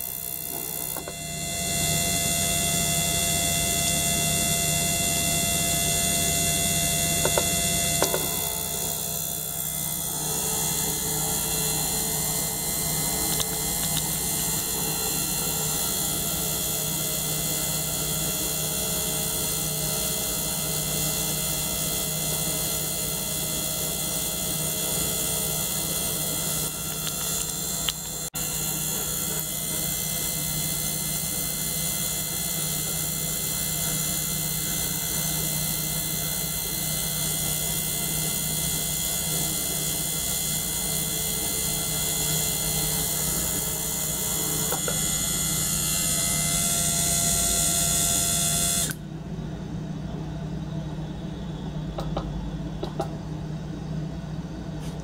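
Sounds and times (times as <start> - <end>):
ultrasonic cleaner and pump hum: 0.0 - 55.0.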